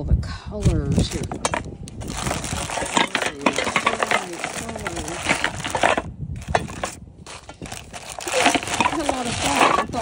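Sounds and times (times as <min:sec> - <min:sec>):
small hard objects clinking: 0:00.9 - 0:10.0.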